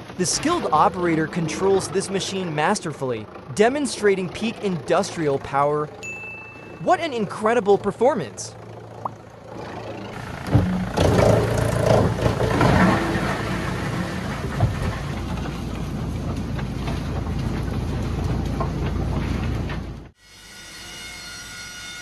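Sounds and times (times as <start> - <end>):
wood chipper rumbling: 0.0 - 6.0, 6.9 - 20.1.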